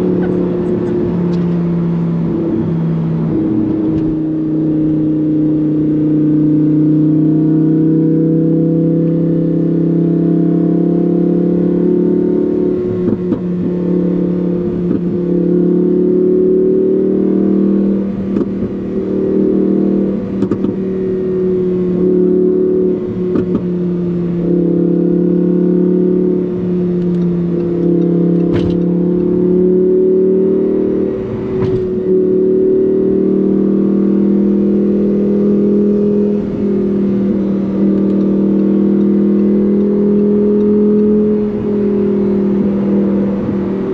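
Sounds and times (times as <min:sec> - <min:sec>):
sports car engine droning: 0:00.0 - 0:43.9.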